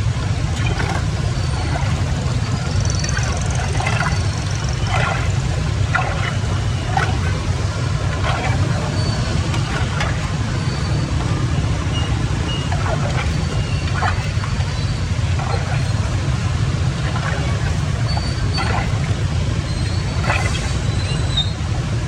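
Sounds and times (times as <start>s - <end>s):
water rushing with deep rumble: 0.0s - 22.0s
brief splashes or knocks: 0.5s - 16.3s, 17.0s - 20.9s.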